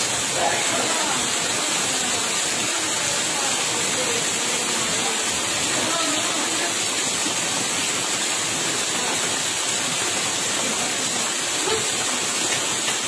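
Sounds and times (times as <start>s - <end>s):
heavy rain: 0.0s - 13.0s
rushing floodwater: 0.0s - 13.0s.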